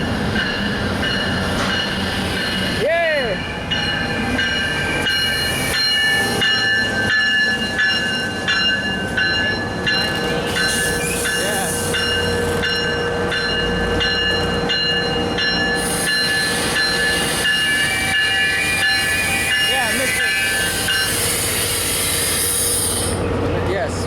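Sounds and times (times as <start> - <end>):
locomotive bell ringing: 0.0 - 22.3
train engine running: 0.0 - 24.0.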